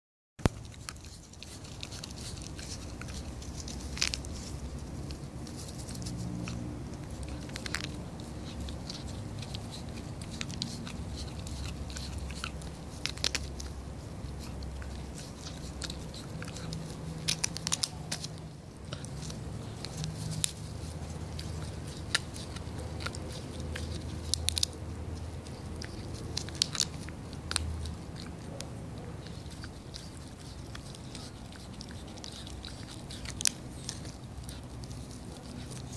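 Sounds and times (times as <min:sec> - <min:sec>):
dog chewing crunchy chew: 0:00.4 - 0:35.9
sharp cracks of chew: 0:00.5 - 0:35.9.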